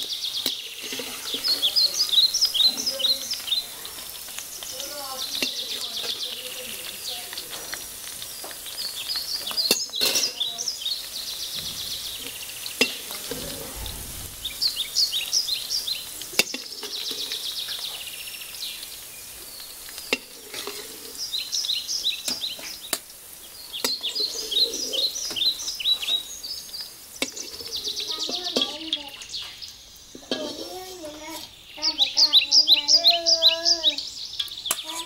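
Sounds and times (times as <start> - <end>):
okra sizzling in hot oil: 0.0 - 35.0.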